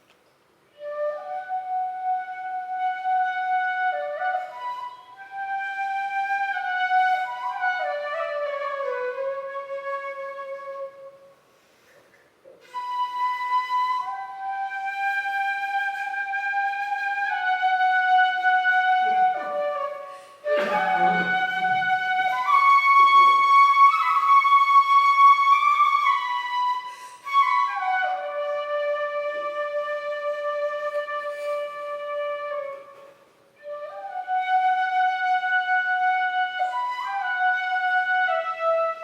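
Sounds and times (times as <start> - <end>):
bamboo flute melody: 0.7 - 11.4, 12.5 - 39.0.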